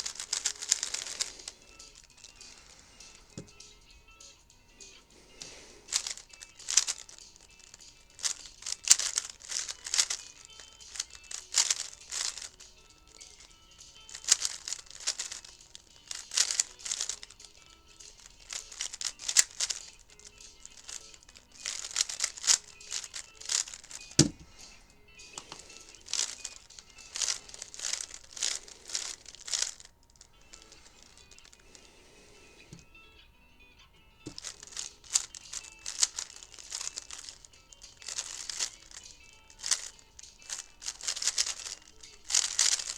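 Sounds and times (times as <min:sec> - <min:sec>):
puzzle cube clicking and rattling: 0:00.0 - 0:32.8, 0:34.3 - 0:42.9.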